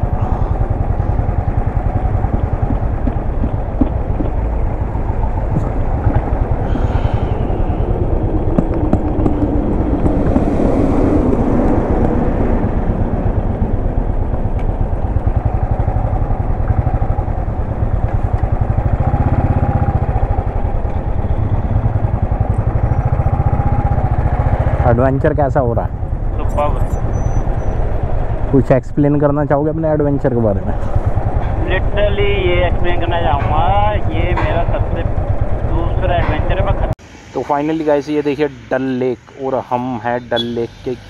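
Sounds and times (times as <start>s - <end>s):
motorcycle engine running: 0.0s - 28.6s, 30.6s - 36.9s.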